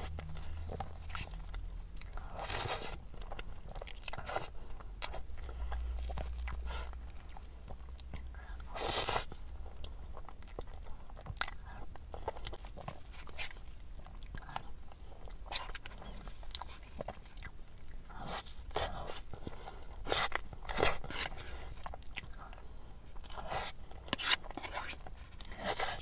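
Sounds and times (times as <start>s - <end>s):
wet smacking and chewing: 0.0s - 26.0s.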